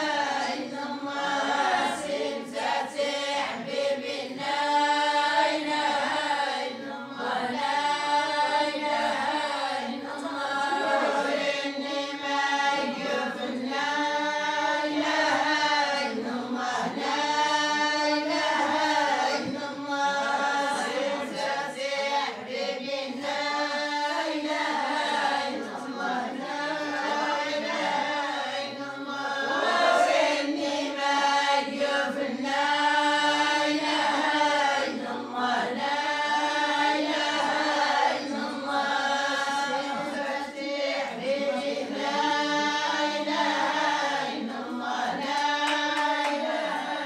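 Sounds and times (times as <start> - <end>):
group of voices chanting: 0.0 - 47.0.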